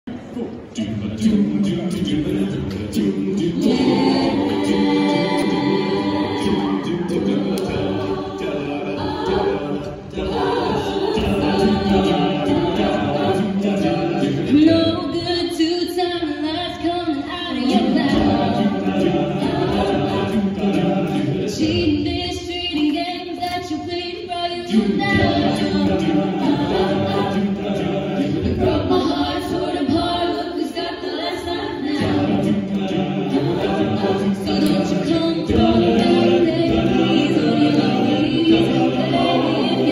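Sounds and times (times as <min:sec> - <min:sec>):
children singing in harmony: 0:01.0 - 0:15.4, 0:17.1 - 0:23.9, 0:24.6 - 0:39.9.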